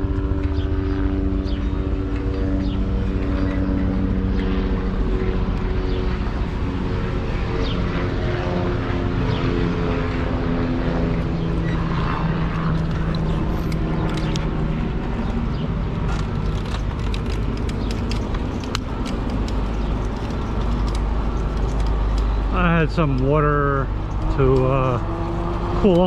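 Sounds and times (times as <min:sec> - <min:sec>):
engine drone: 0:00.0 - 0:26.0
traffic noise: 0:00.0 - 0:26.0.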